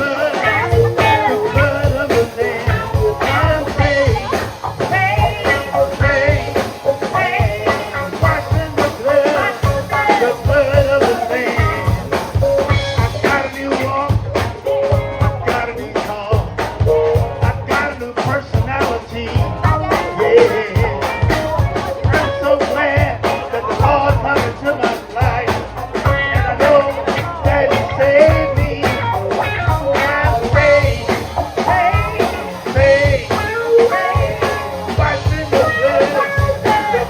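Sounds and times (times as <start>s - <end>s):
bass: 0.0s - 37.0s
drum beat: 0.0s - 37.0s
gospel band playing: 0.0s - 37.0s
person singing: 0.0s - 37.0s.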